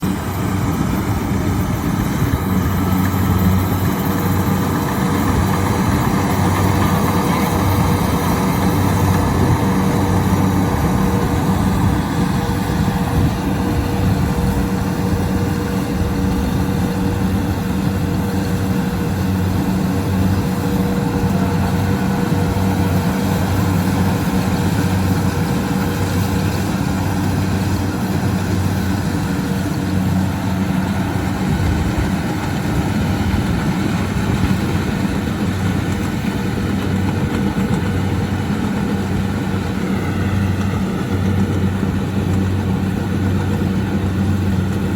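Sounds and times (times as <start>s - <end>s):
diesel engine running: 0.0s - 44.9s
high whine: 0.0s - 44.9s.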